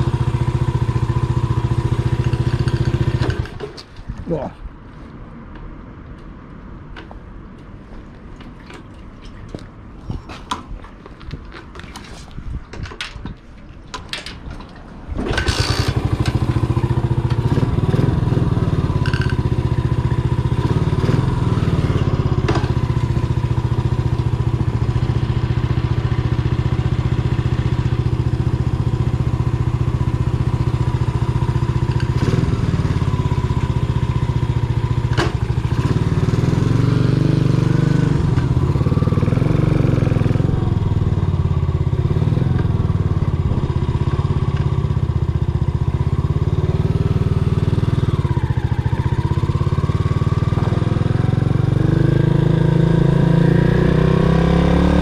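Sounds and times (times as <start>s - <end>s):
motorcycle engine starting and running: 0.0s - 4.0s, 12.8s - 55.0s.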